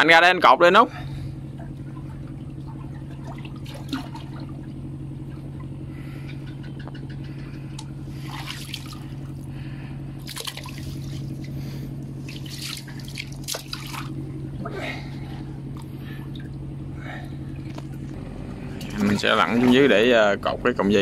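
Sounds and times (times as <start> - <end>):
low motor hum: 0.0 - 21.0
water splashing and trickling: 1.0 - 6.4, 7.7 - 20.3.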